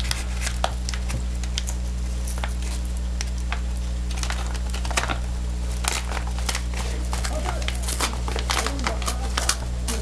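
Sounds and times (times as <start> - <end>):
plastic mailer crinkling: 0.0 - 10.0
steady low hum: 0.0 - 10.0.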